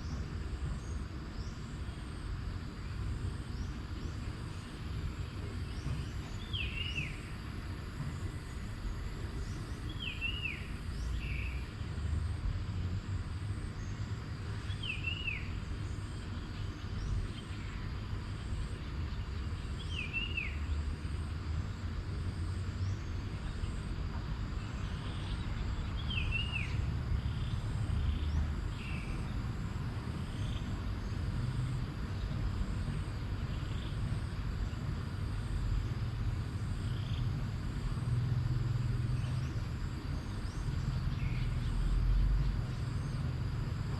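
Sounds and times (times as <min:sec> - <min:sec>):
faint high hum: 0:00.0 - 0:43.9
steady low rumble: 0:00.0 - 0:43.9.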